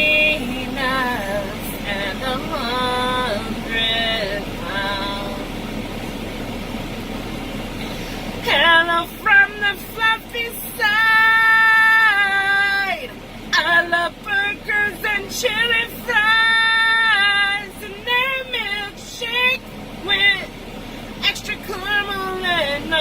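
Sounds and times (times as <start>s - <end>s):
woman singing unaccompanied: 0.0s - 5.8s, 8.4s - 23.0s
truck engine running: 0.0s - 23.0s.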